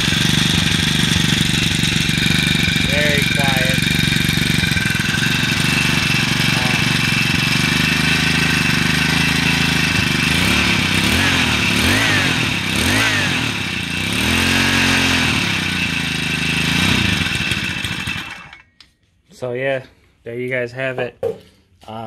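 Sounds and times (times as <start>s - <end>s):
engine idling and revving: 0.0s - 18.7s.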